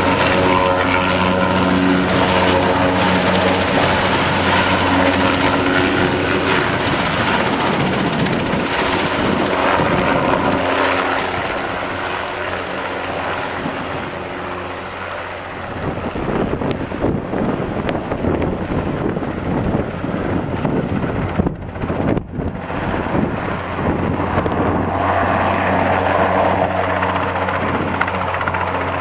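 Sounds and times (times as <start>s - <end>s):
helicopter rotor and engine drone: 0.0s - 29.0s.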